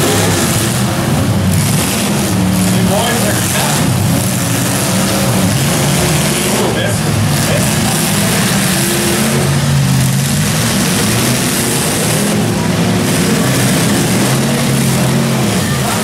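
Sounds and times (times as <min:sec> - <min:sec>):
car engines revving hard: 0:00.0 - 0:16.0
cars shoving against each other: 0:00.0 - 0:16.0.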